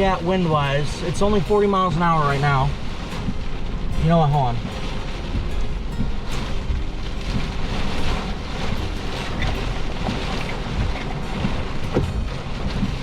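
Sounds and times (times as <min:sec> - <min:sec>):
deep rumble: 0:00.0 - 0:13.0
gusting wind: 0:00.0 - 0:13.0
rain: 0:00.0 - 0:13.0
raindrops pattering: 0:00.0 - 0:13.0.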